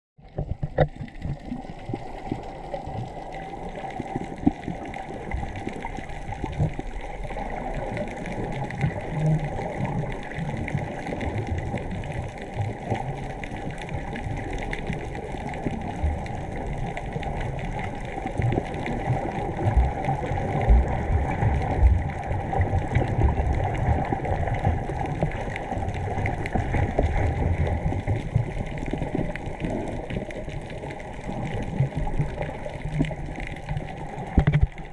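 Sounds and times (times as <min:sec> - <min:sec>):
underwater water movement: 0:00.2 - 0:34.9.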